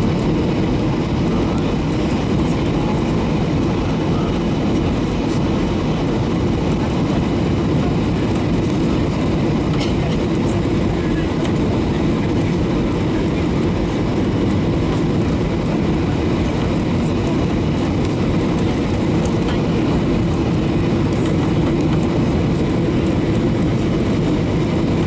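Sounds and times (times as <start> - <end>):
aircraft cabin engine roar: 0.0 - 25.0.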